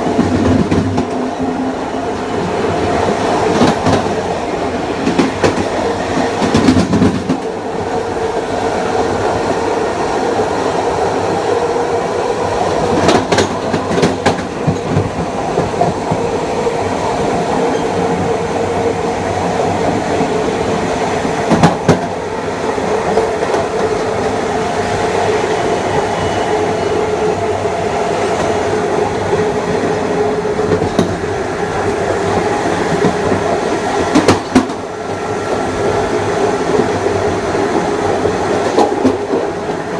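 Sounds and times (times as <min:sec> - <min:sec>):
train hum: 0:00.0 - 0:39.9
train wheels rumbling on rail: 0:00.0 - 0:39.9.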